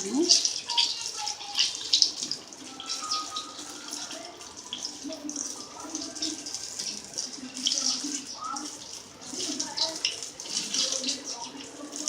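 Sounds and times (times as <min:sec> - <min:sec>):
hot oil sizzling and popping: 0:00.0 - 0:12.0.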